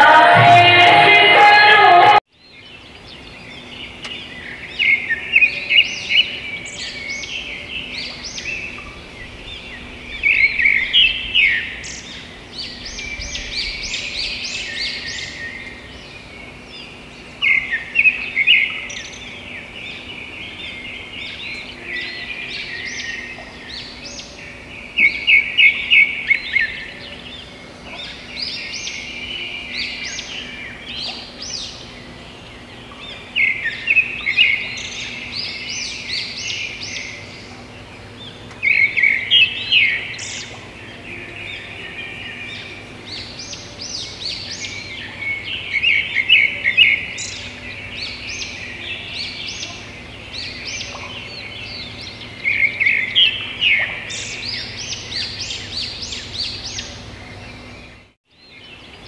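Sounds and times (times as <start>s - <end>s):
faint steady hum: 0.0s - 59.0s
birds chirping and twittering: 2.3s - 59.0s.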